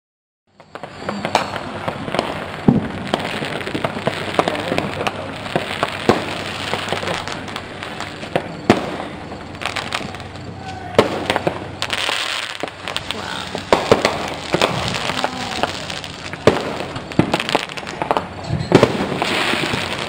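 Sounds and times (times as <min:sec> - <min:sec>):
distant fireworks pops: 0:00.5 - 0:20.0
fireworks bangs: 0:00.5 - 0:20.0.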